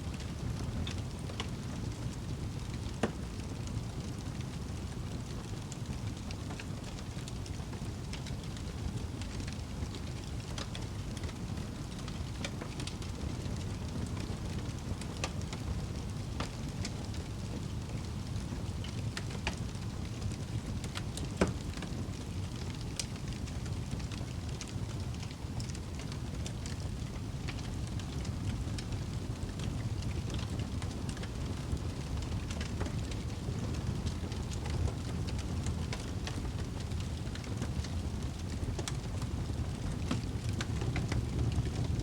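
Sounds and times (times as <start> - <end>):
low fire rumble: 0.0 - 42.0
wood fire crackling: 0.1 - 42.0.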